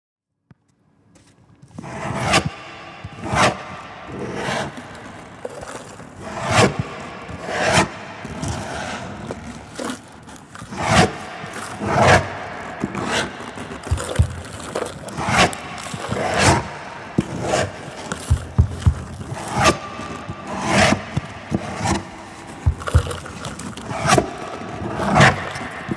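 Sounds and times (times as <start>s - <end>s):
rasping scraping strokes: 1.8s - 25.9s.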